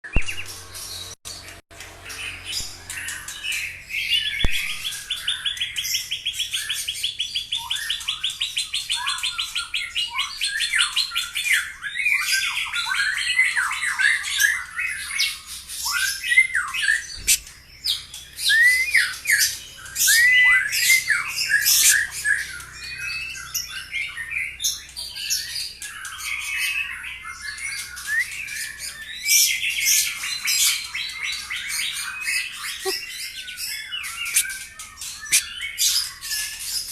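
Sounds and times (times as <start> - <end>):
songbird singing varied song: 0.0 - 36.9.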